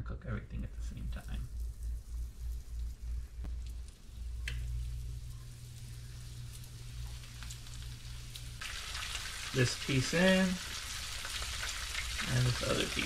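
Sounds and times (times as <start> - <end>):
low hum: 0.0 - 12.6
fish frying in oil: 1.4 - 13.0.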